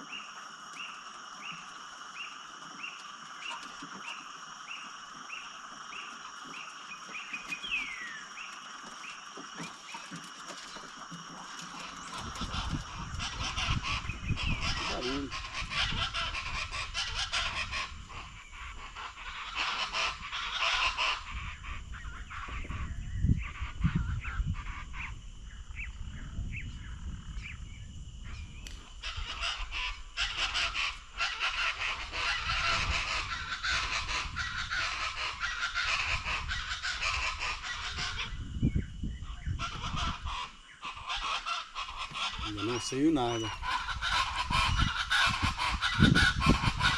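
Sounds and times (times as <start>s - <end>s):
chorus of raucous bird calls: 0.0s - 46.9s.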